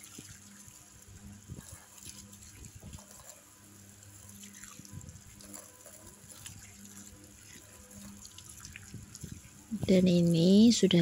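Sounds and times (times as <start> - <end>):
tap water pouring and splashing: 0.0 - 10.4.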